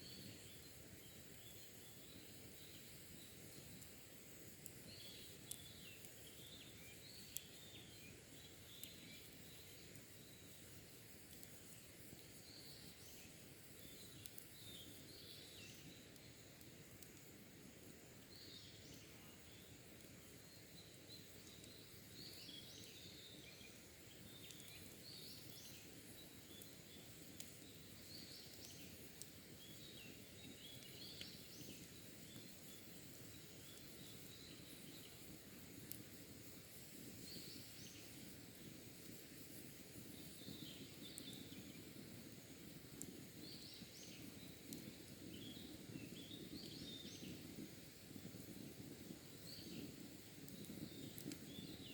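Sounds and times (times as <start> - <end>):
campfire embers crackling: 0.1 - 51.9.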